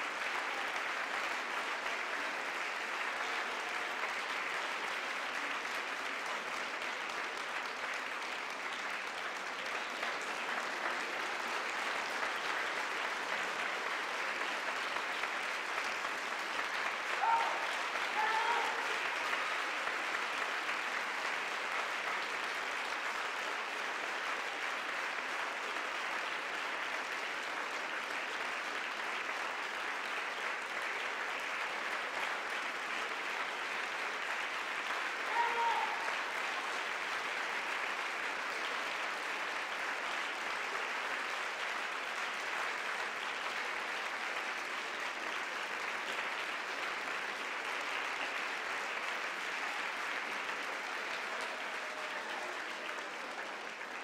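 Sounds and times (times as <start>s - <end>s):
audience applauding: 0.0s - 54.0s.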